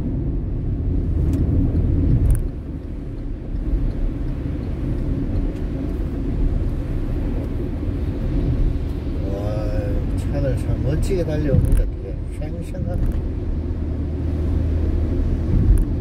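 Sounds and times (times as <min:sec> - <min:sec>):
car tyres rumbling on wet road: 0:00.0 - 0:16.0.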